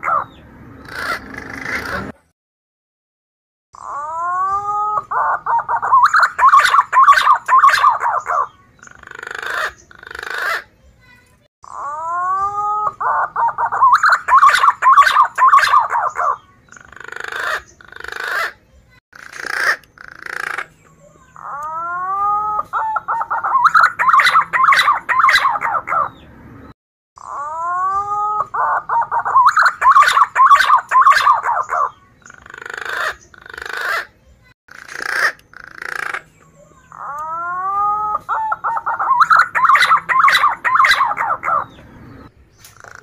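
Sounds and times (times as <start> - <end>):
pigeon singing whistles and trills: 3.8 - 10.6, 11.7 - 18.5, 20.0 - 26.3, 27.2 - 34.1, 35.2 - 43.0.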